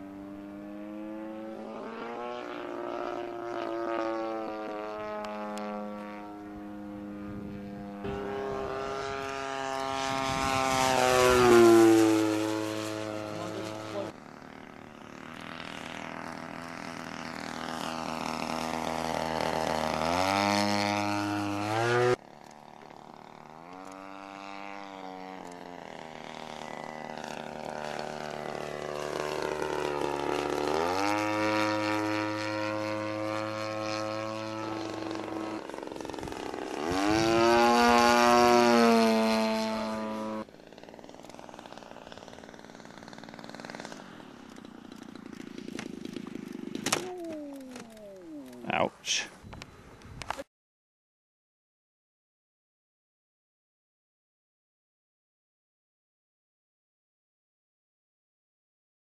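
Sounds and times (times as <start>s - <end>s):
model airplane engine running: 0.0s - 50.5s.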